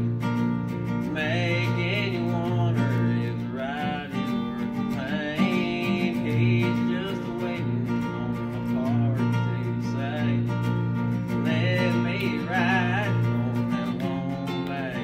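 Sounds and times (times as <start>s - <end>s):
acoustic guitar strumming: 0.0s - 15.0s
young man singing country song: 0.0s - 15.0s.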